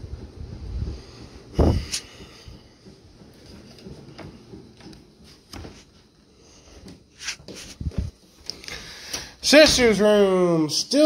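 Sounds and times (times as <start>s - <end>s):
footsteps on carpet: 0.0s - 10.1s.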